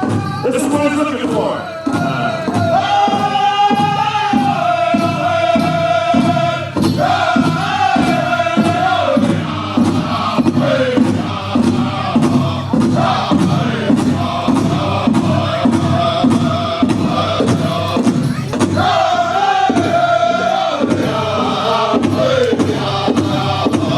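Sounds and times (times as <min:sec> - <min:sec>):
big drum steady beat: 0:00.0 - 0:23.9
men singing high wavering notes: 0:00.0 - 0:23.9.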